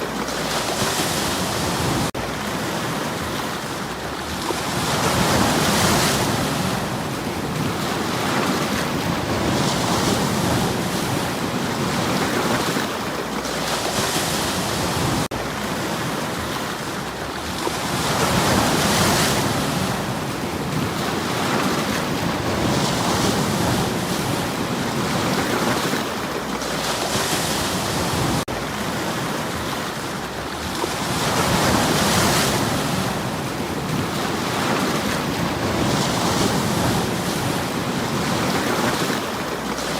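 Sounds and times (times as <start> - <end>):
sea waves washing on stones: 0.0 - 39.9.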